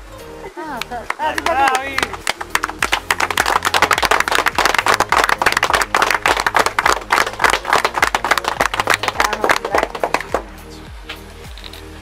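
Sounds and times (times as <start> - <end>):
crowd applauding: 0.8 - 10.6.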